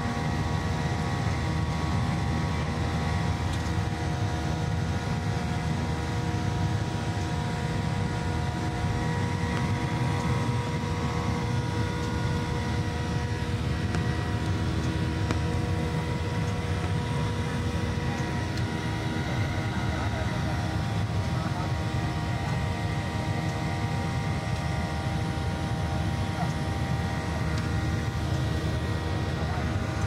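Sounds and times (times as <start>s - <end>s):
constant engine whine: 0.0s - 30.0s
jet engine and airflow rumble: 0.0s - 30.0s.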